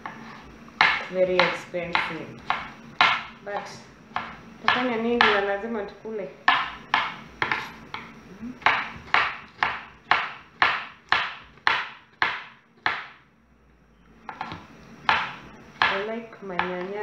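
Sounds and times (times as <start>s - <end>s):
knife chopping on wooden board: 0.0s - 3.4s, 4.1s - 5.4s, 6.5s - 13.2s, 14.3s - 16.9s.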